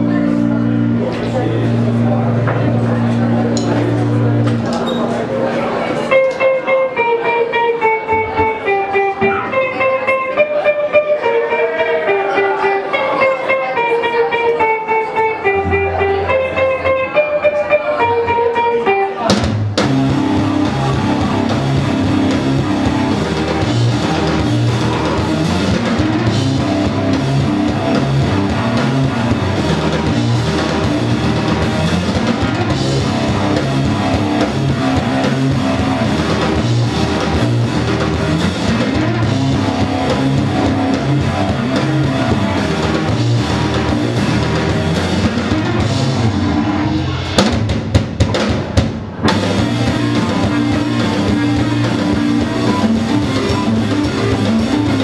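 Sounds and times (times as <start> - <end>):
live rock band playing loudly: 0.0 - 55.0.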